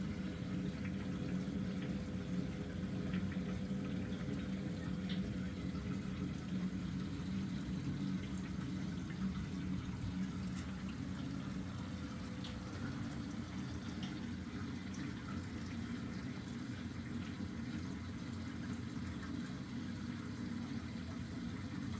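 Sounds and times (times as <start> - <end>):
low hum of water circulation: 0.0 - 21.9
running water: 0.0 - 21.9.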